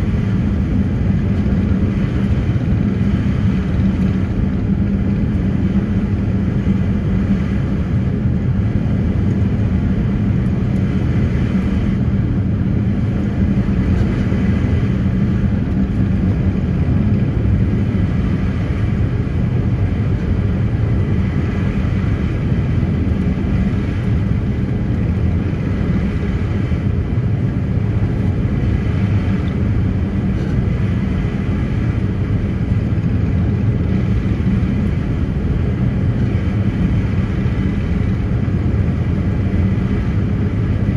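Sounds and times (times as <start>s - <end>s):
ferry engines droning: 0.0s - 40.9s.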